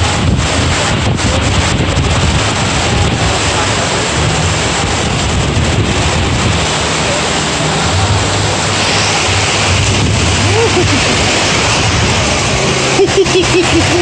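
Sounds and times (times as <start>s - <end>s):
heavy rain downpour: 0.0s - 14.0s
wind buffeting microphone: 0.0s - 14.0s.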